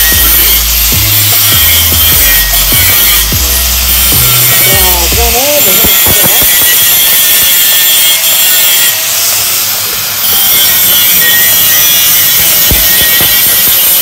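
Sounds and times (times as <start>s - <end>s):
grinder disc grinding steel: 0.0s - 14.0s.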